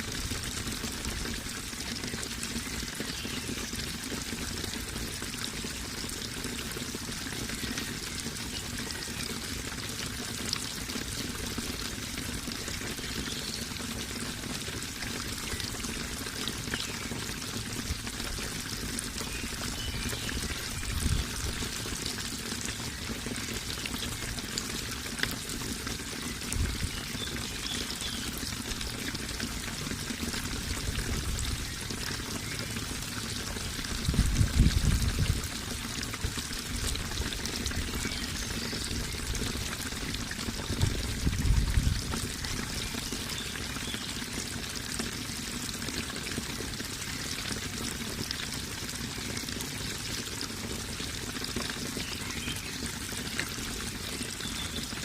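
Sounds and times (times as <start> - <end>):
running water pouring: 0.0 - 55.0.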